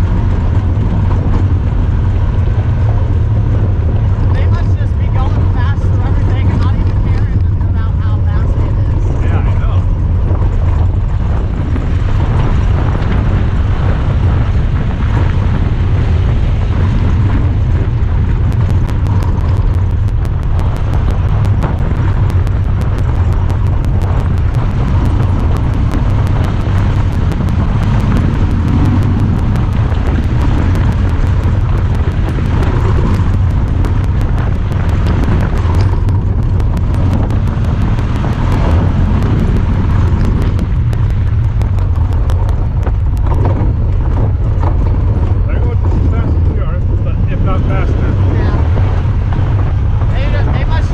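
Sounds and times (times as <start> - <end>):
faint rapid camera ticking: 0.0 - 46.6
off-road vehicle engine rumbling: 0.0 - 50.9.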